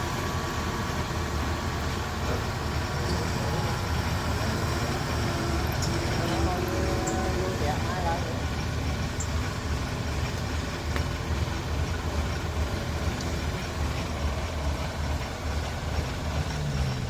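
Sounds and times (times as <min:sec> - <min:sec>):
combine harvester diesel engine running: 0:00.0 - 0:17.0.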